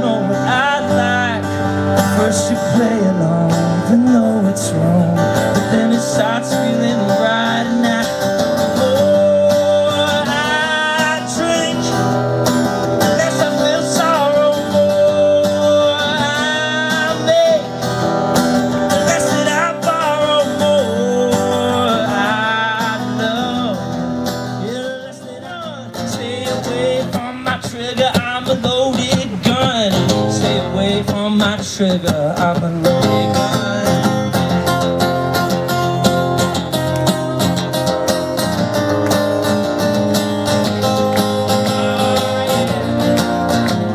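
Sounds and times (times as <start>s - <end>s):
guitar-led song: 0.0s - 43.9s.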